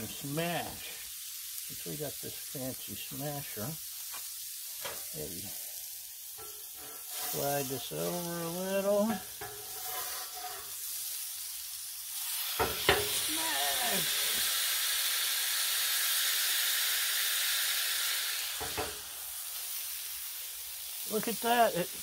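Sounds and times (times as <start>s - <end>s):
burger sizzling on griddle: 0.0s - 22.0s.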